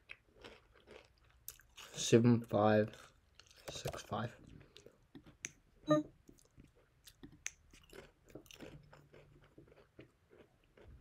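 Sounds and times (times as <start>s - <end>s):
person chewing: 0.0s - 2.0s, 2.9s - 11.0s.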